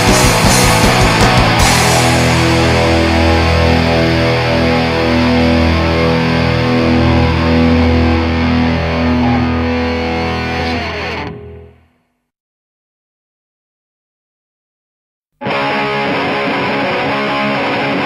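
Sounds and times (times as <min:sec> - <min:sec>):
distorted electric guitar chords: 0:00.0 - 0:12.2, 0:15.4 - 0:18.0.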